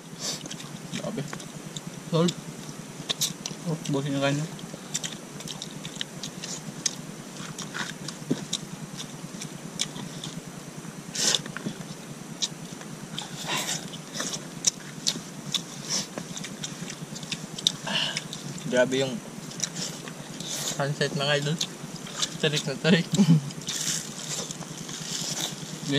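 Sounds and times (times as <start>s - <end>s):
chewing and lip smacking: 0.3s - 10.5s, 11.1s - 18.7s, 19.4s - 25.9s.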